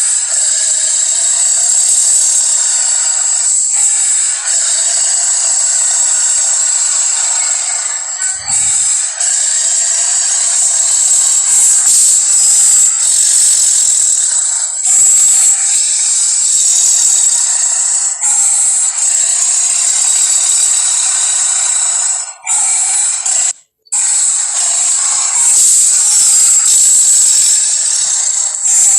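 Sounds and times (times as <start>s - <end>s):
hissing monster roar: 0.0s - 28.9s.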